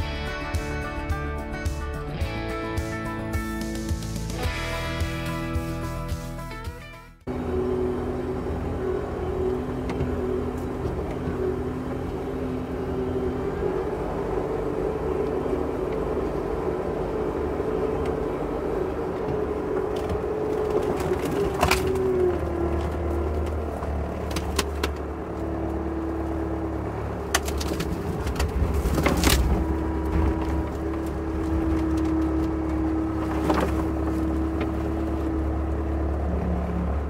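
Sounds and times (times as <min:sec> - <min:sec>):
loader engine running: 0:00.0 - 0:37.0.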